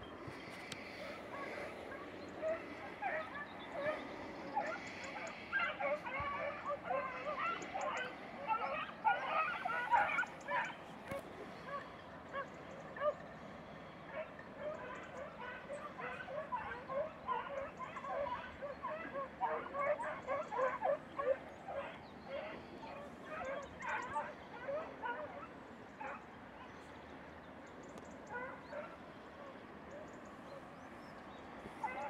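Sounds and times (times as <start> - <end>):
dogs baying: 0.5 - 13.2, 14.1 - 26.8, 28.2 - 30.6, 31.6 - 32.0.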